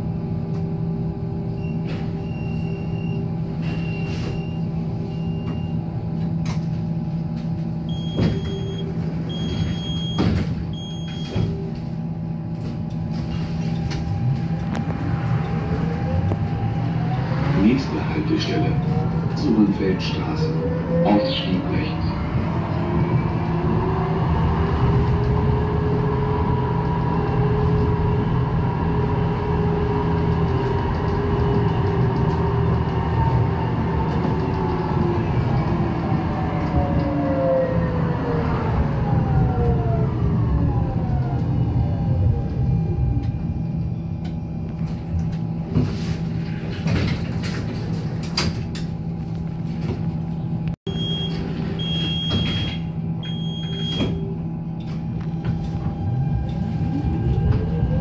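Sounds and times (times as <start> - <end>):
tram traction drive whine: 0.0 - 58.0.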